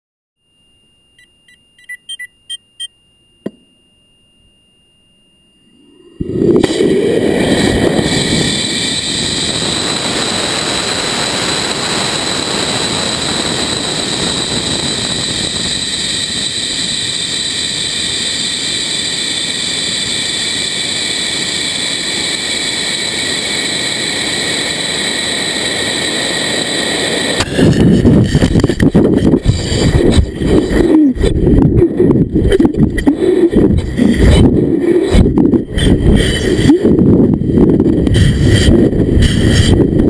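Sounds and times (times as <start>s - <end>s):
rushing roar of air: 5.9s - 40.0s.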